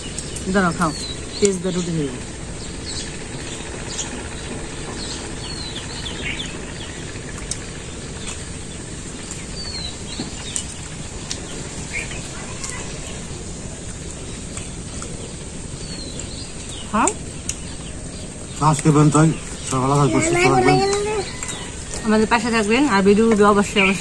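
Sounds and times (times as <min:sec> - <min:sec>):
small birds chirping: 0:00.0 - 0:24.0
steady rushing background noise: 0:00.0 - 0:24.0.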